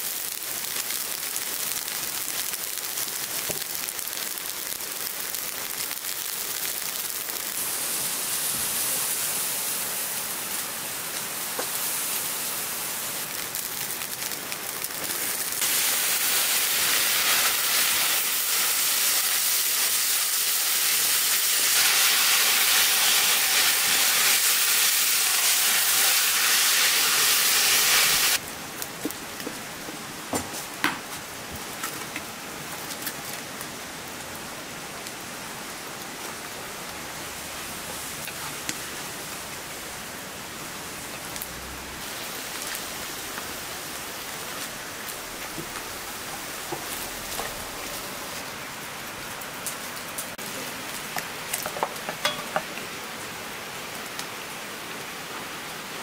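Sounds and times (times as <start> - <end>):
onions and meat sizzling: 0.0 - 55.1.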